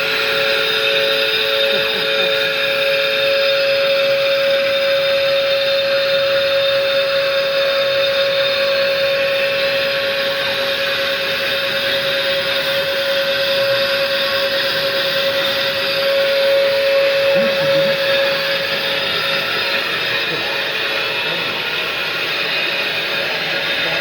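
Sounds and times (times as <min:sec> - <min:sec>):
brake lathe running: 0:00.0 - 0:24.0.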